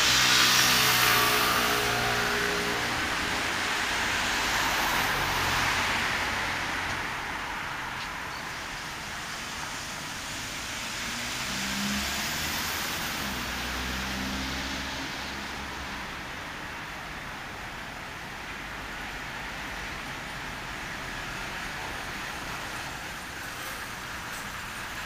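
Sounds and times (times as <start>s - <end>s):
car engines passing: 0.0s - 25.0s
road noise from passing cars: 0.0s - 25.0s.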